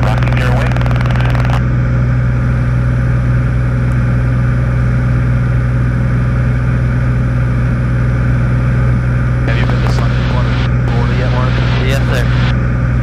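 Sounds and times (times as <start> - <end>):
airplane engine droning: 0.0 - 13.0.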